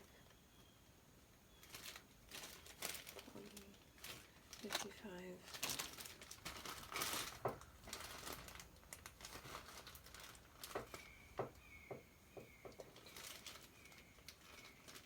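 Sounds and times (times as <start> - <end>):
plastic packaging crinkling: 1.5 - 15.0.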